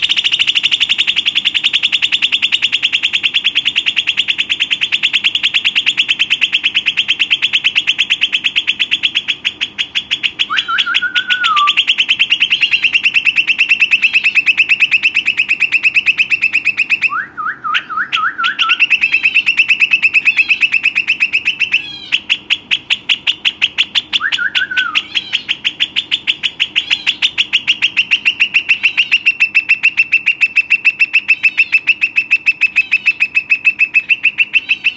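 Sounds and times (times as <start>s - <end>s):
bird singing rapid trill: 0.0s - 34.9s.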